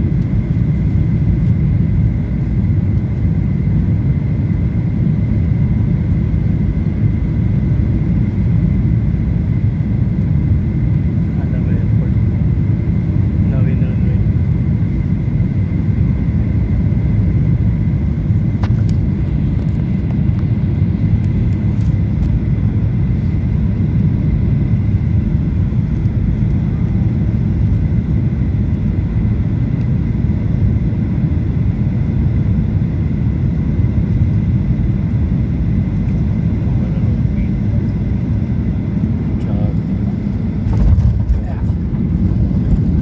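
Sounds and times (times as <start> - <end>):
jet engine roar in cabin: 0.0 - 43.0.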